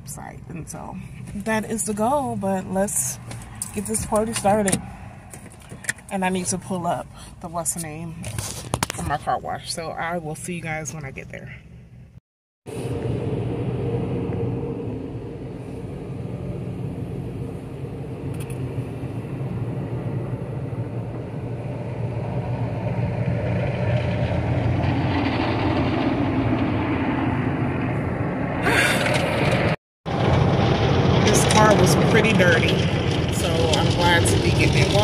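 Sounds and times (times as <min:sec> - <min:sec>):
car engine hum: 0:00.0 - 0:35.0
road noise: 0:00.0 - 0:35.0.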